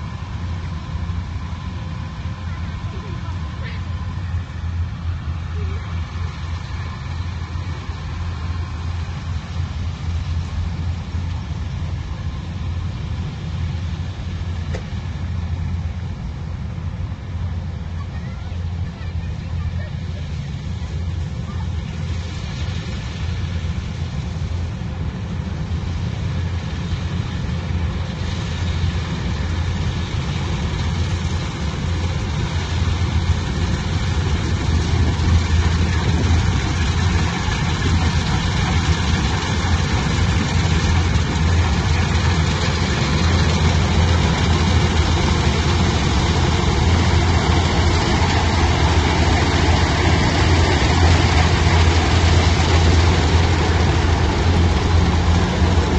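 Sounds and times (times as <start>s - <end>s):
heavy machine engine droning: 0.0s - 55.9s.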